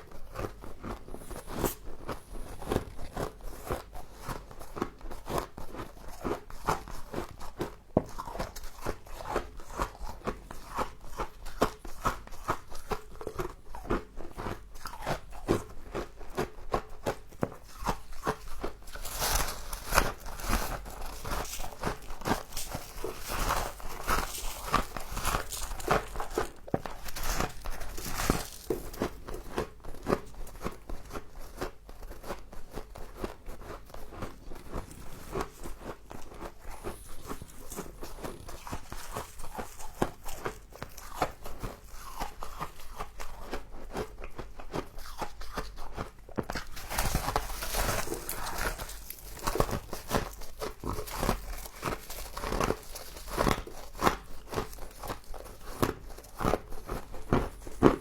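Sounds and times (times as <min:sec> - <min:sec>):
chewing crunchy frost: 0:00.0 - 0:58.0.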